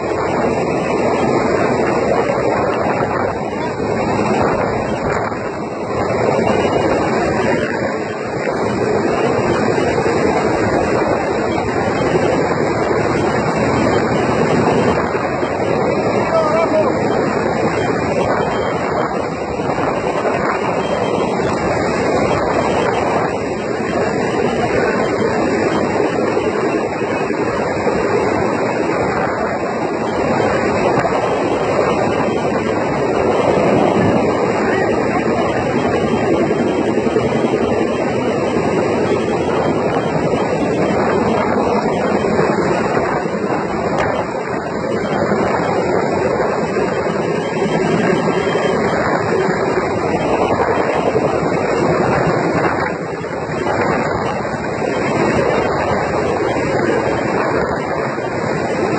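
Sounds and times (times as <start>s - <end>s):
helicopter engine and rotor: 0.0s - 58.9s
wind on microphone: 0.0s - 58.9s.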